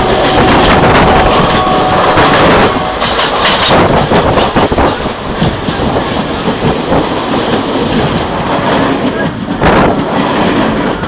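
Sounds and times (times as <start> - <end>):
train passing close: 0.0 - 11.0
wheels clattering over rail joints: 0.0 - 11.0.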